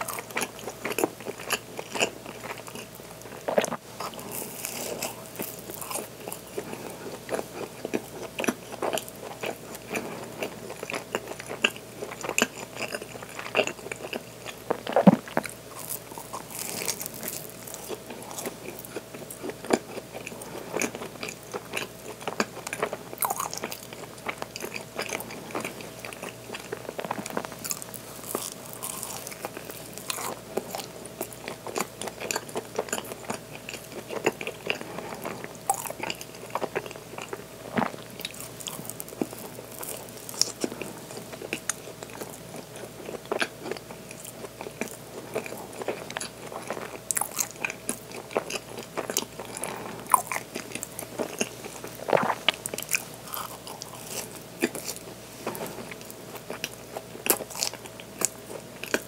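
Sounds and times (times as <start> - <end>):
sugar crystals crunching: 0.0 - 8.1, 12.1 - 42.4, 43.0 - 57.9
soft chewing: 0.0 - 59.0.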